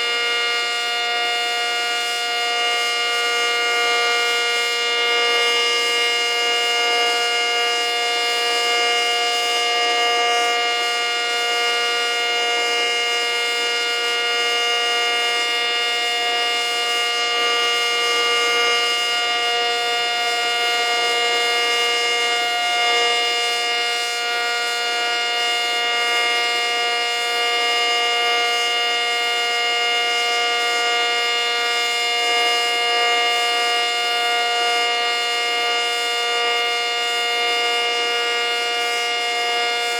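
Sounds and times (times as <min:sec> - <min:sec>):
warning siren steady pitch: 0:00.0 - 0:39.9.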